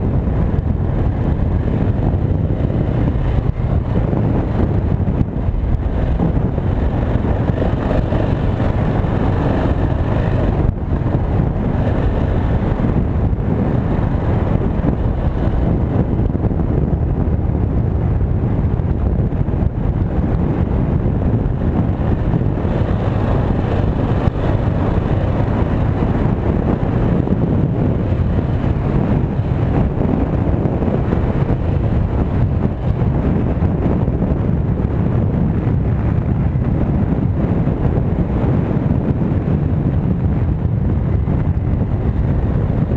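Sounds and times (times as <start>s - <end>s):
dirt bike engine running: 0.0s - 42.9s
wind rush on microphone: 0.0s - 42.9s.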